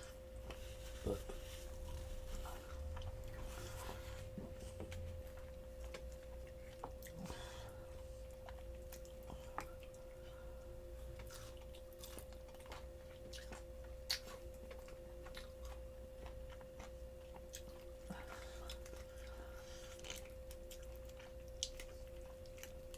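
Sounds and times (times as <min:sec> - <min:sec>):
low electrical hum: 0:00.0 - 0:22.9
person chewing food: 0:00.0 - 0:22.9.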